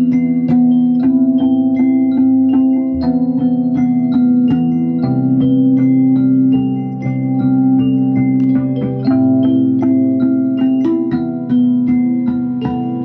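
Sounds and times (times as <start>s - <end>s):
handpan notes ringing: 0.0s - 13.0s.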